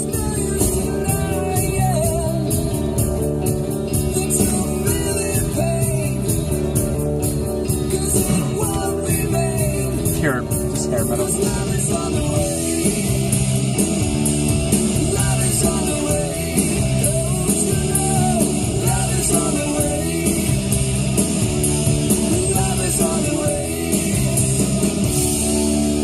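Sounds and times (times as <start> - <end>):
man singing: 0.0 - 3.0, 3.8 - 6.9, 7.6 - 14.0, 14.7 - 25.7
rock song on car stereo: 0.0 - 26.0.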